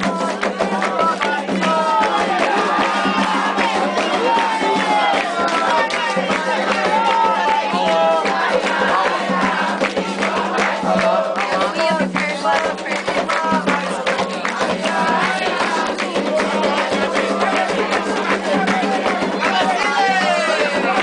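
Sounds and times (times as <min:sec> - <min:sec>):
drumming and percussion: 0:00.0 - 0:21.0
voices singing together: 0:00.0 - 0:21.0.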